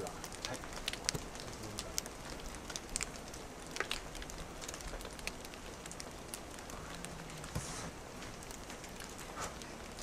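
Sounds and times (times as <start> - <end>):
light rain hiss: 0.0 - 10.0
raindrops ticking: 0.0 - 10.0.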